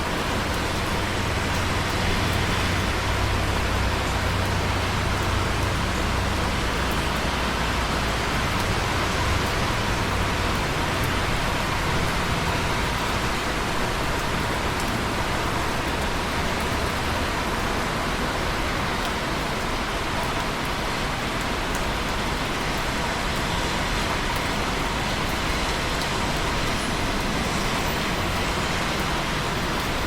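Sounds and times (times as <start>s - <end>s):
heavy rainfall: 0.0s - 30.0s
raindrop ticks: 0.0s - 30.0s.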